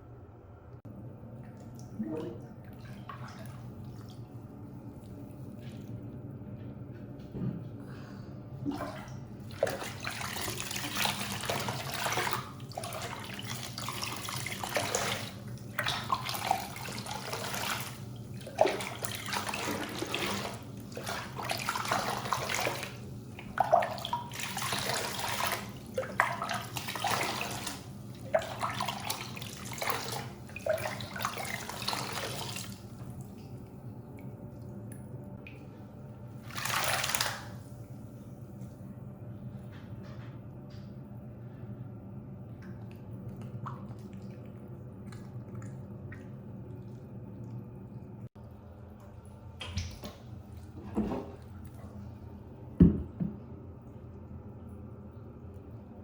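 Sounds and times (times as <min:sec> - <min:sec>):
shower water splashing in a bathtub: 0:01.4 - 0:06.1, 0:08.6 - 0:38.8, 0:42.5 - 0:53.2.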